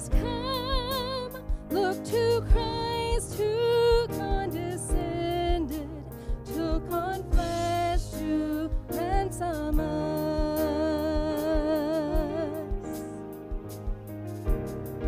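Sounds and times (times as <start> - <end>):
woman singing a hymn: 0.0 - 13.2
instrumental accompaniment with steady beat: 0.0 - 15.0.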